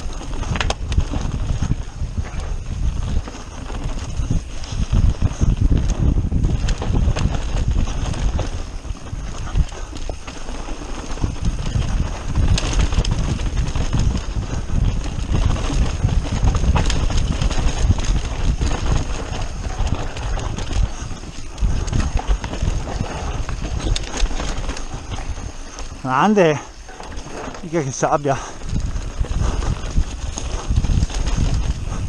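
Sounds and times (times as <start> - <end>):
bike rattling and knocking: 0.0 - 32.0
bike tyres on loose ground: 0.0 - 32.0
wind rumble on microphone: 0.0 - 32.0.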